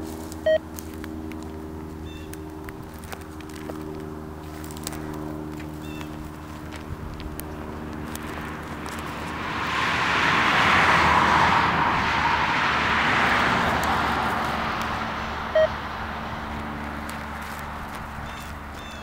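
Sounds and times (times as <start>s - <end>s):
car passing: 0.0s - 19.0s.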